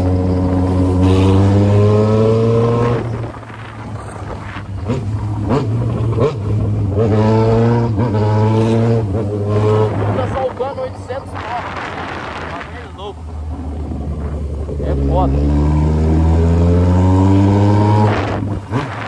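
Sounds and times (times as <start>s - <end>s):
constant low drone: 0.0s - 19.0s
motorcycle engine accelerating: 0.0s - 19.0s.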